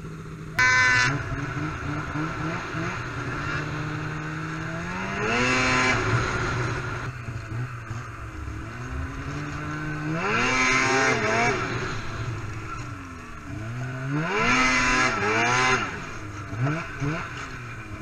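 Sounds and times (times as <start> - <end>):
snowmobile engine under throttle: 0.0 - 18.0.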